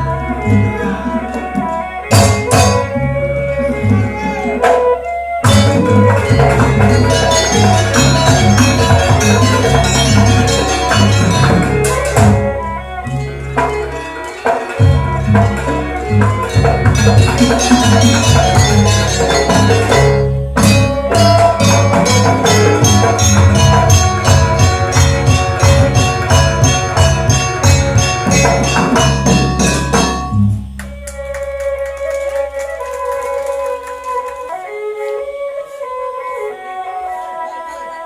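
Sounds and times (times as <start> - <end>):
melody of held notes: 0.0 - 33.1.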